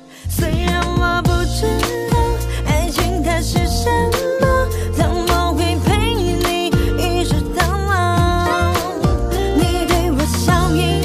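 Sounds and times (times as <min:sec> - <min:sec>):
pop song with bass beat: 0:00.0 - 0:11.0.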